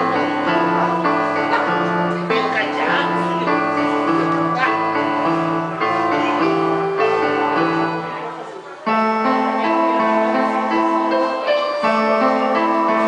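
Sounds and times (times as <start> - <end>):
digital piano chords: 0.0 - 13.0.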